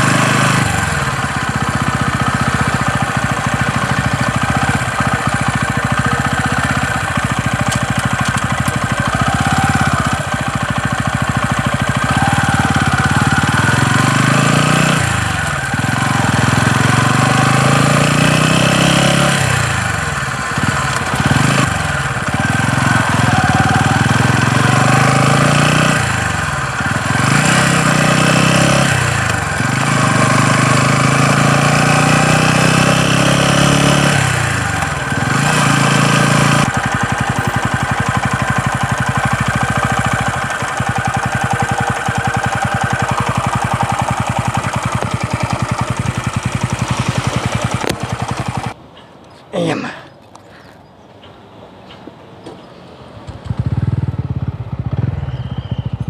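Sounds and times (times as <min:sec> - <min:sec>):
engine knocking: 0:00.0 - 0:48.8, 0:53.3 - 0:56.0
motorcycle engine revving: 0:00.0 - 0:48.8, 0:53.1 - 0:56.0.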